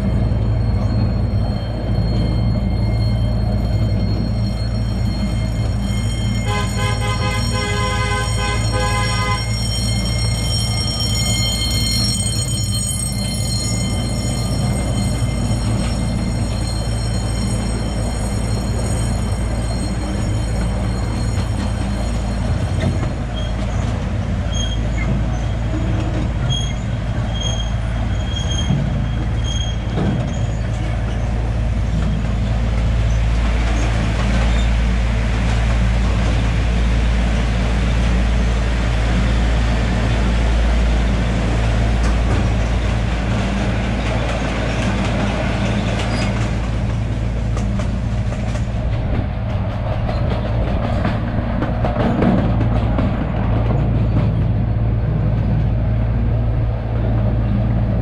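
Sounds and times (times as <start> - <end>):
miniature train rumbling: 0.0 - 58.0.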